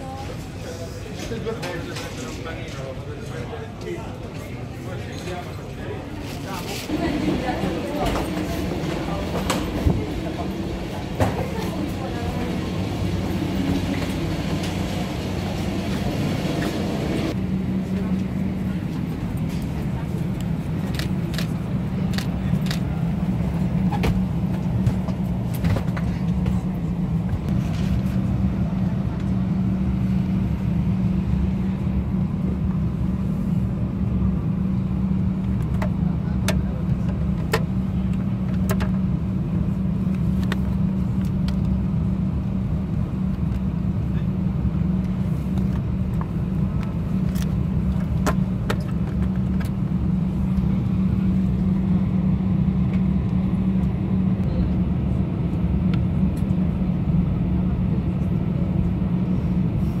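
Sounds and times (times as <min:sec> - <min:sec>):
aircraft cabin drone: 0:00.0 - 1:00.0
constant hum: 0:00.0 - 1:00.0.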